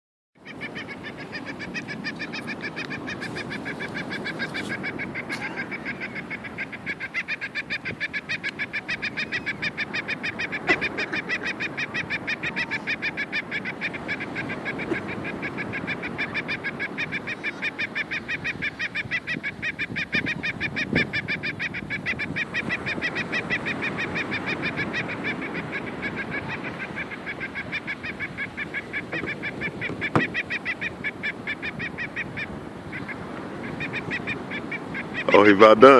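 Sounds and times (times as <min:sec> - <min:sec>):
gull squawking rapidly: 0:00.4 - 0:35.9.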